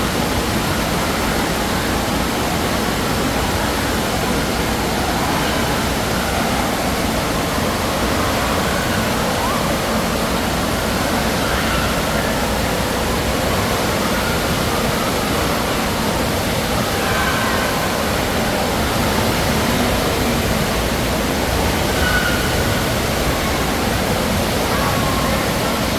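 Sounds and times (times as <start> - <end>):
rush of water in wave pool: 0.0 - 25.9
faint distant voices: 1.0 - 25.9.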